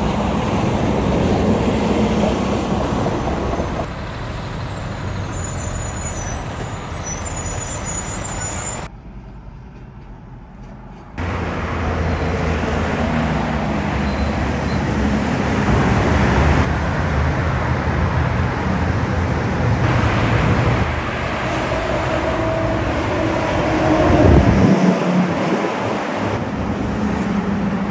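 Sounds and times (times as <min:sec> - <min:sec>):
highway traffic with trucks passing: 0:00.0 - 0:27.9.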